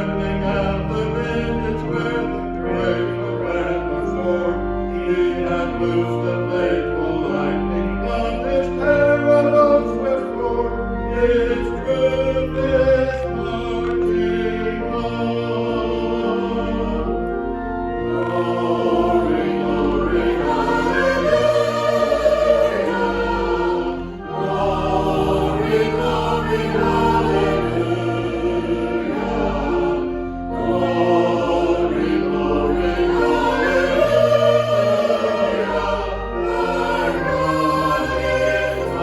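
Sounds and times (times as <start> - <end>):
choir singing church music: 0.0 - 39.0
instrumental accompaniment: 0.0 - 39.0.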